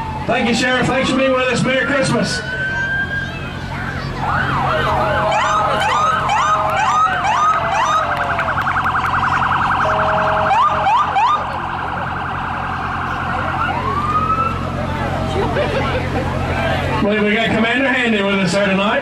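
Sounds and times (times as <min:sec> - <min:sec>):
siren whooping and warbling: 0:00.0 - 0:15.6.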